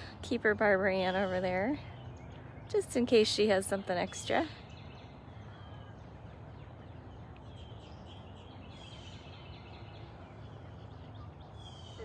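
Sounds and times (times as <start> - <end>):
distant birds chirping: 0.0 - 12.0
low background noise: 0.0 - 12.0.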